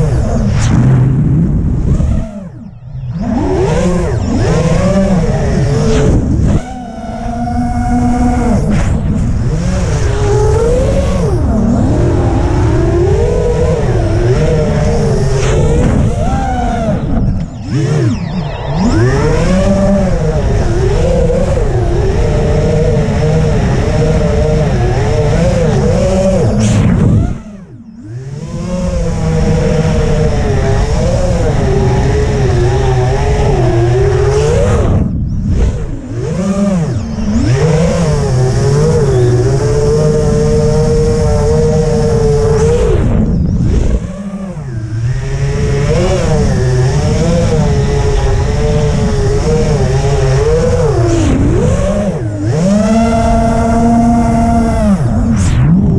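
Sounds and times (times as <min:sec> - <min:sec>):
quadcopter motors whining: 0:00.0 - 0:55.9.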